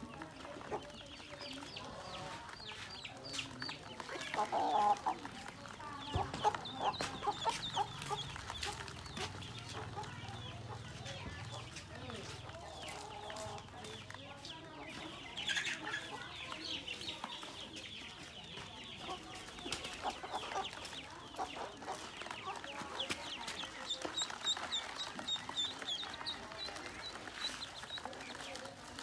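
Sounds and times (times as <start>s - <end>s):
ducklings peeping: 0.0s - 29.0s.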